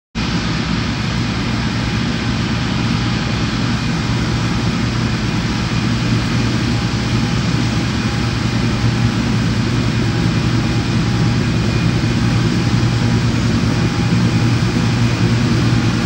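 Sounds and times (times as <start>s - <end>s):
combine harvester engine droning: 0.2s - 16.0s.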